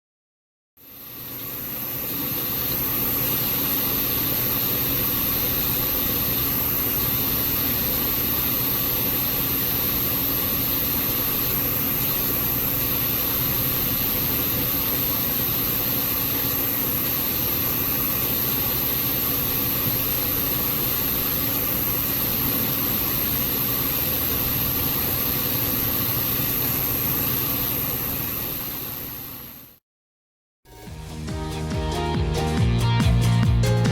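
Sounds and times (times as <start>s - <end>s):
hard disk drive humming and whining: 0.8s - 29.8s.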